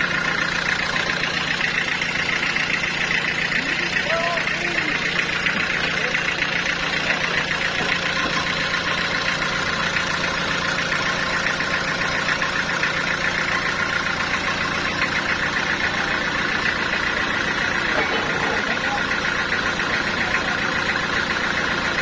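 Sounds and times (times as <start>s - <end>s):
sawmill machinery drone: 0.0s - 22.0s.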